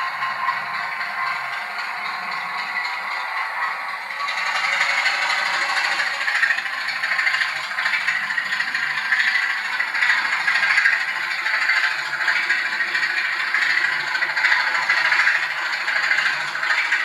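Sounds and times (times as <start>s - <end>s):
model train rattling on track: 0.0s - 17.0s.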